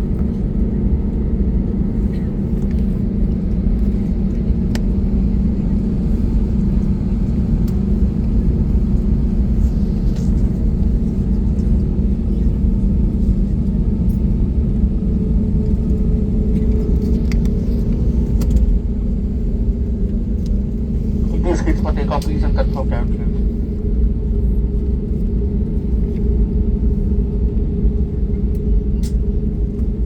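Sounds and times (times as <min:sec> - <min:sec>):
jet engine cabin rumble: 0:00.0 - 0:30.0.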